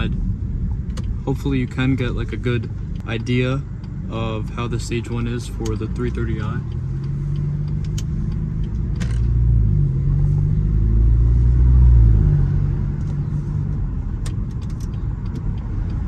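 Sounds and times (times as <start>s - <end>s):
car engine drone from inside cabin: 0.0s - 16.0s.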